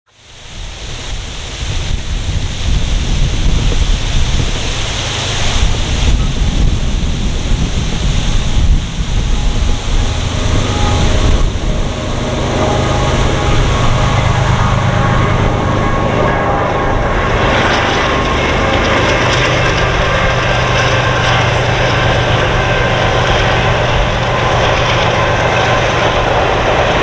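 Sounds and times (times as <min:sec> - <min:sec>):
freight train rumbling: 0:00.1 - 0:27.0
wind buffeting microphone: 0:00.4 - 0:27.0.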